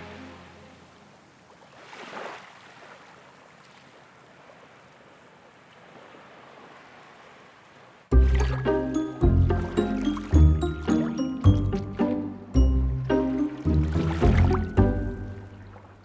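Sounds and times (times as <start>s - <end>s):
soft wash of water: 0.0s - 12.5s, 13.1s - 16.0s
faint steady water noise: 0.0s - 16.0s.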